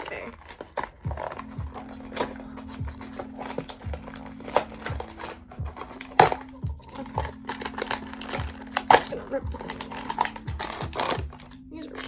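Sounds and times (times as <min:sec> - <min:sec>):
toy packaging clicking: 0:00.0 - 0:12.0
background music with beat: 0:01.0 - 0:12.0.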